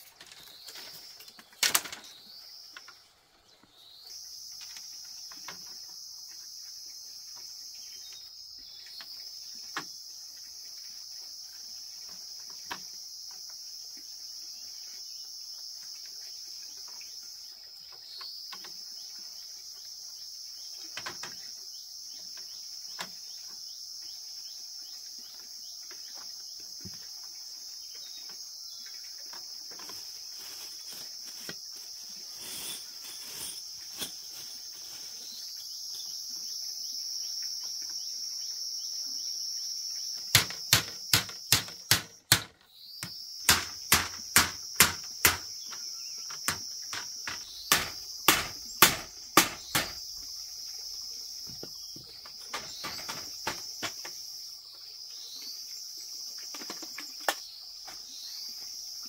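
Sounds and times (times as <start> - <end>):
high-pitched insect chorus: 3.8 - 59.0.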